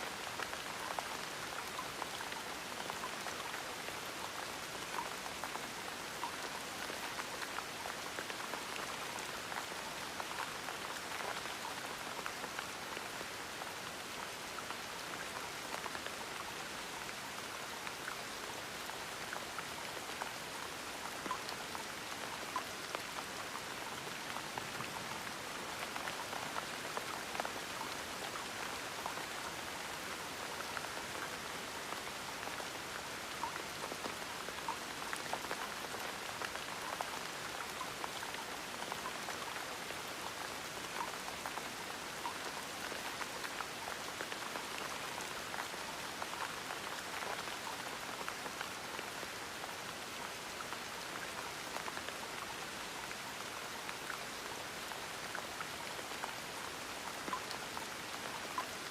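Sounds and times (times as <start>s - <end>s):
gentle rain: 0.0s - 58.9s.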